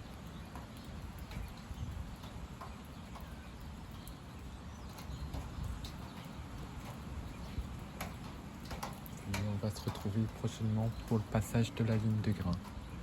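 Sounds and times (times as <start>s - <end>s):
wind blowing through trees: 0.0s - 13.0s
wind buffeting microphone: 0.0s - 13.0s.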